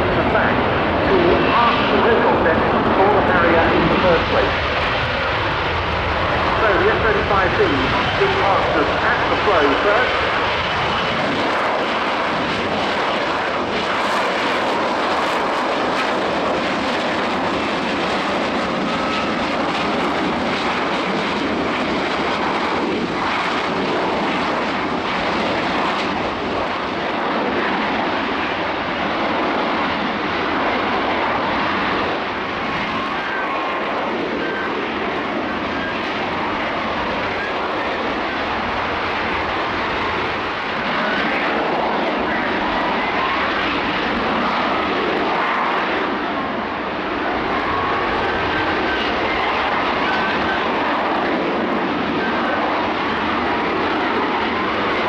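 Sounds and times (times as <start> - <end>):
jet engine rushing noise: 0.0 - 55.0.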